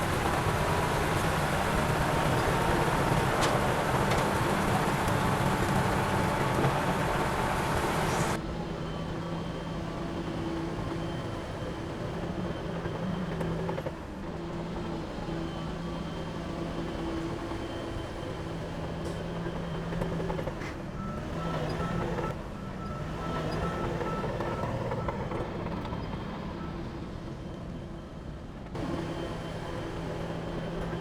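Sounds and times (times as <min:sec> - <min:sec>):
heavy diesel engine running: 0:00.0 - 0:26.6.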